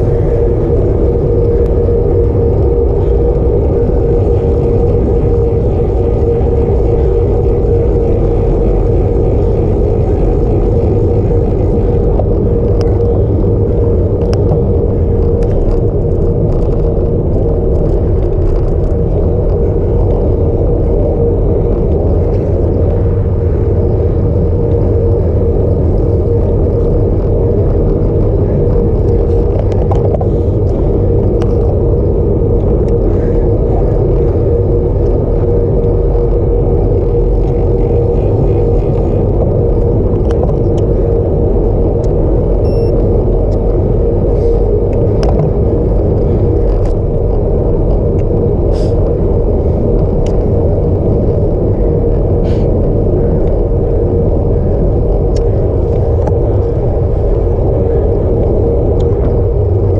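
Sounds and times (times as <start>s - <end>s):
bike tyres on asphalt: 0.0s - 59.9s
constant hum: 0.0s - 59.9s
wind rush over microphone: 0.0s - 59.9s.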